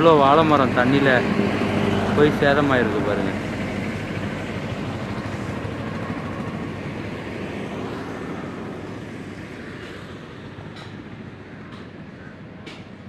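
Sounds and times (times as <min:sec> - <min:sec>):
passing vehicle road noise: 0:00.0 - 0:13.0.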